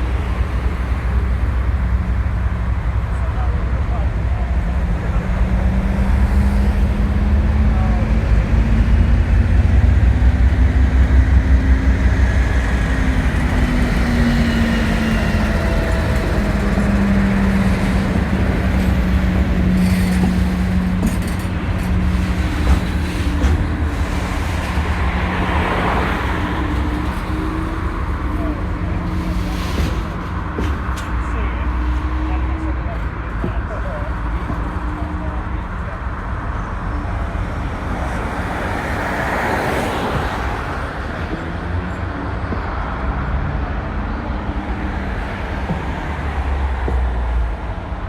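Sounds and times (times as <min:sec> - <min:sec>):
diesel locomotive engine droning: 0:00.0 - 0:48.0.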